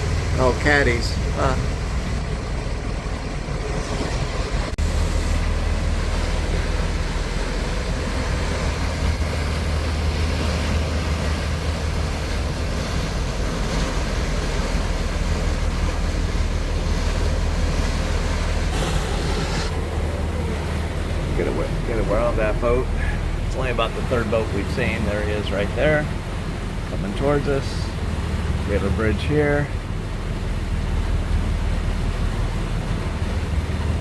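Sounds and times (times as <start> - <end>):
motorboat engine drone: 0.0 - 34.0
wind and water noise: 0.0 - 34.0.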